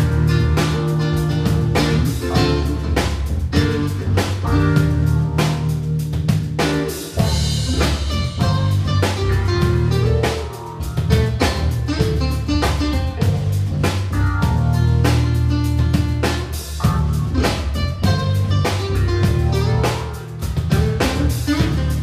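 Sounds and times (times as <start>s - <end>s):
drum kit beat: 0.0s - 22.0s
guitar: 0.0s - 22.0s
low bass notes: 0.0s - 22.0s.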